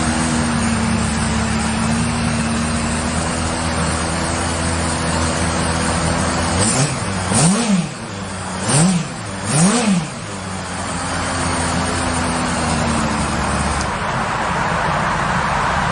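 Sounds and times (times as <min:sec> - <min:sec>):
motorcycle engine idling and revving: 0:00.0 - 0:15.9.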